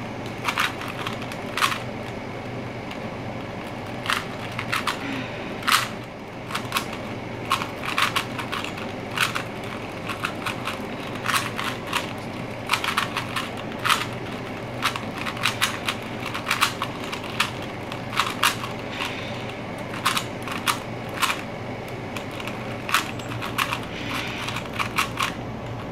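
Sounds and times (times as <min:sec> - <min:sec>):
puzzle cube clicking: 0:00.3 - 0:02.2, 0:03.6 - 0:05.9, 0:06.5 - 0:21.4, 0:22.2 - 0:25.9.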